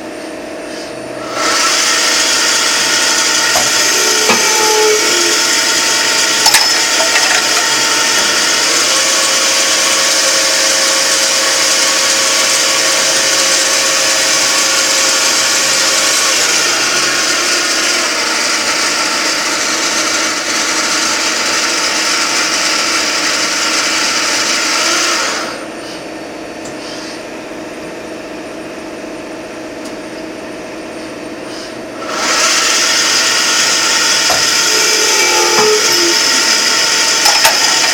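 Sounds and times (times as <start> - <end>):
machine high whine: 0.0 - 26.1, 30.9 - 37.9.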